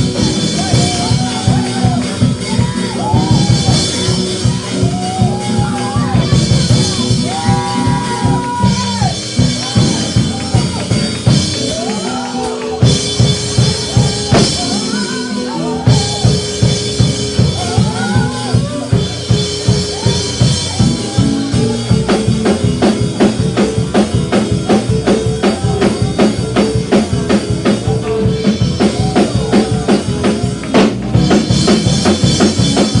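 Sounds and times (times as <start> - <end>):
drum kit fast beat: 0.0 - 33.0
keyboard chords and runs: 0.0 - 33.0.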